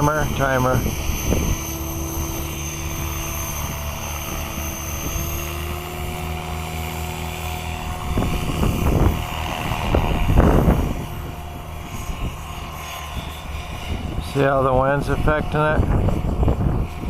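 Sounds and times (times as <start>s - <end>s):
rc helicopter rotor whine: 0.0s - 17.0s
wind buffeting microphone: 0.0s - 17.0s.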